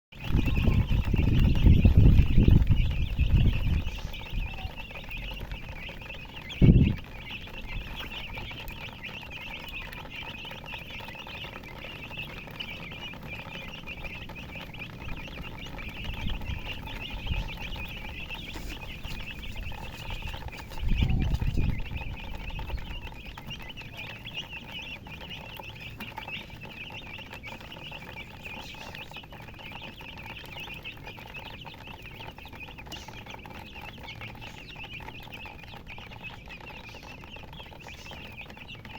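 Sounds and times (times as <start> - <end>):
chickens peeping: 0.1 - 38.9.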